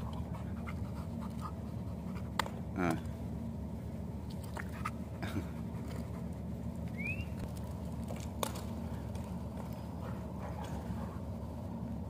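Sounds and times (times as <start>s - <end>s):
low industrial hum: 0.0s - 12.0s.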